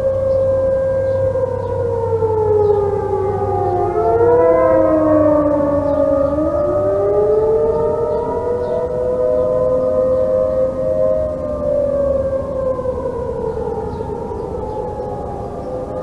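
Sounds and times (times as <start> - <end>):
tornado warning sirens wailing: 0.0 - 16.0.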